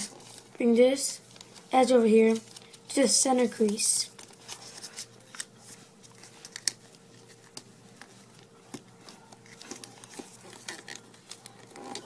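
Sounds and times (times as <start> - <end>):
paper being folded and creased: 0.0 - 0.6, 1.2 - 12.0.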